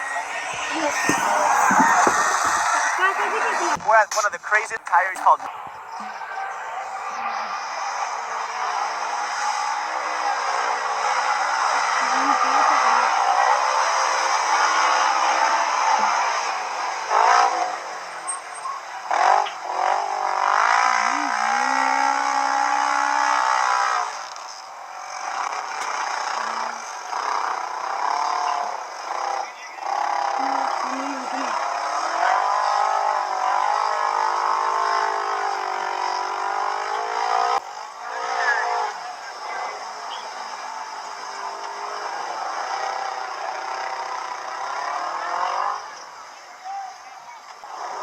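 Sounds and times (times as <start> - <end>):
off-road vehicle engine revving: 0.0 - 3.9, 4.5 - 48.0.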